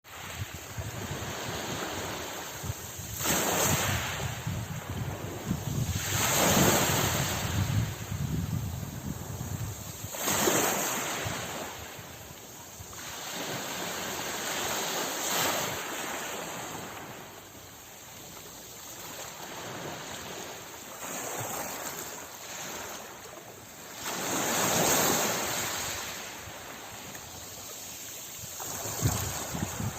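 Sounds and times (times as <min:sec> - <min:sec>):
ocean waves breaking on beach: 0:00.1 - 0:29.9.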